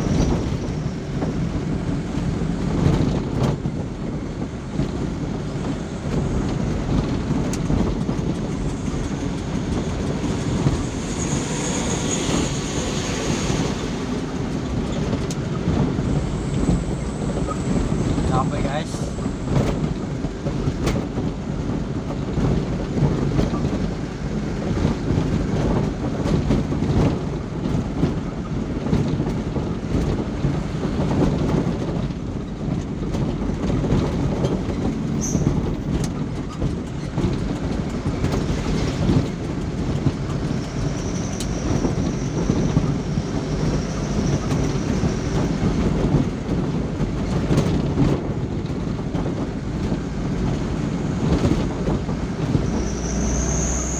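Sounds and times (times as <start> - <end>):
road rumble: 0.0 - 53.9
vehicle engine drone: 0.0 - 53.9.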